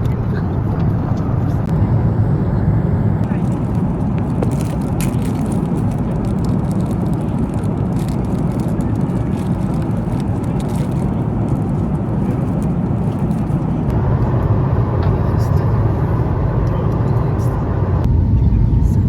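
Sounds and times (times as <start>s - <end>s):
vehicle interior rumble: 0.0s - 19.0s.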